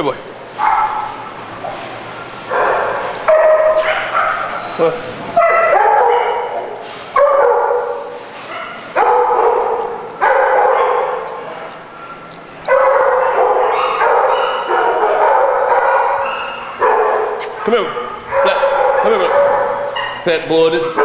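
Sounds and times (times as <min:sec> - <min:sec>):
dogs barking loudly: 0:00.5 - 0:21.0.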